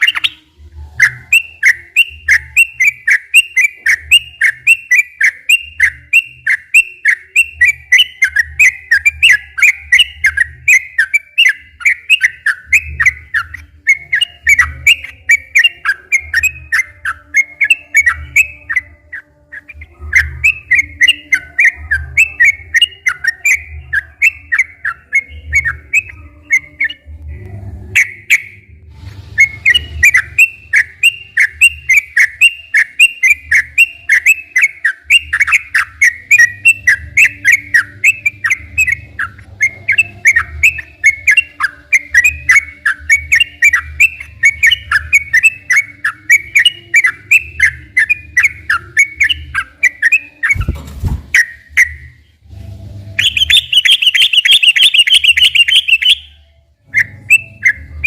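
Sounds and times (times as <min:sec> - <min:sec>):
bird singing chattering notes: 0:00.0 - 0:27.1, 0:29.4 - 0:50.8, 0:53.2 - 0:58.0.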